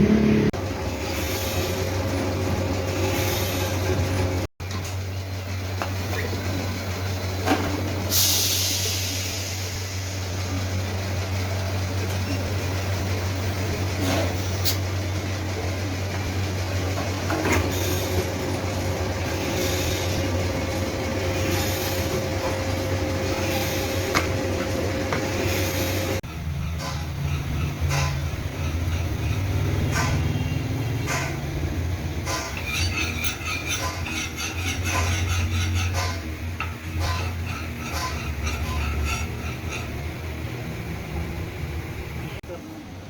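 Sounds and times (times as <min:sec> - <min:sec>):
machinery hum: 0:00.0 - 0:43.0.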